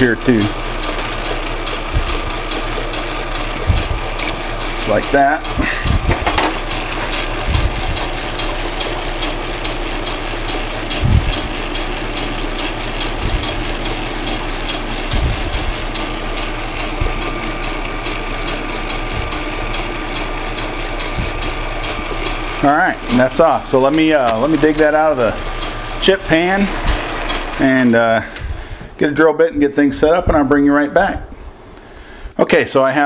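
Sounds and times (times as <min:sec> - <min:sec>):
low thumps: 0:00.0 - 0:27.3, 0:28.2 - 0:30.6
parting tool cutting metal: 0:00.0 - 0:28.5
metal lathe gear rattle: 0:00.0 - 0:31.8.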